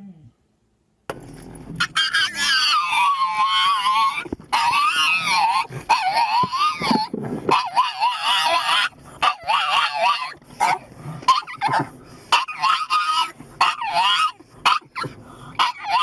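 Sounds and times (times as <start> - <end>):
dog whining: 1.8 - 16.0.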